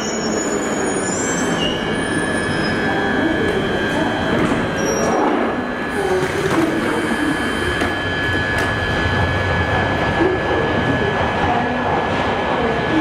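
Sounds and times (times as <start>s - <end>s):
train humming with high whine: 0.0s - 13.0s.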